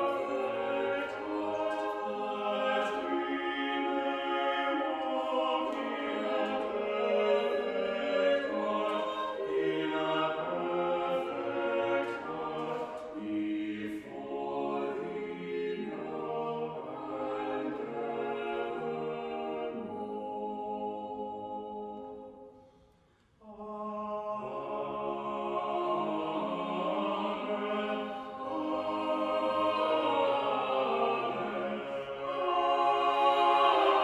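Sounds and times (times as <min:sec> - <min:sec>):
small choir singing: 0:00.0 - 0:22.8, 0:23.4 - 0:34.0.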